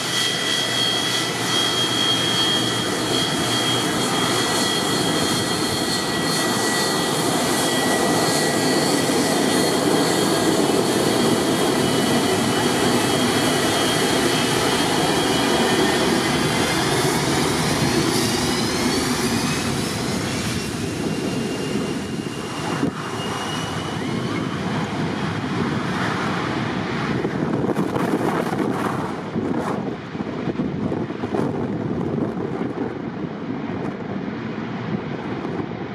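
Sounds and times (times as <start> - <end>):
jet engine roar with whine: 0.0 - 35.9
wind buffeting microphone: 0.0 - 35.9.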